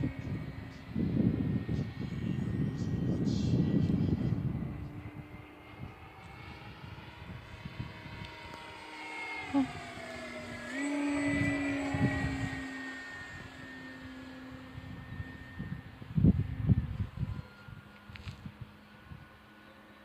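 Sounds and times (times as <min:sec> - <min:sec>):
model airplane motor whining: 0:00.0 - 0:20.0.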